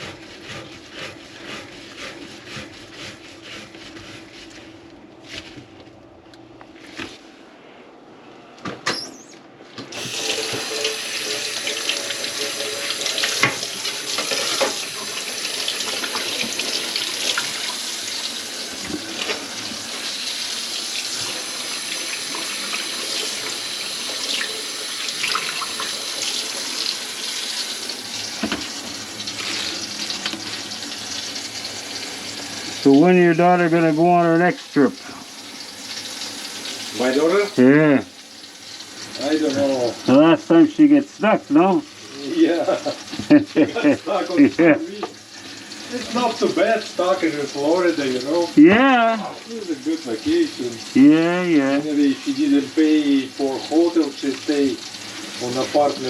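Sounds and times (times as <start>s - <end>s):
water running into sink: 9.9s - 56.0s.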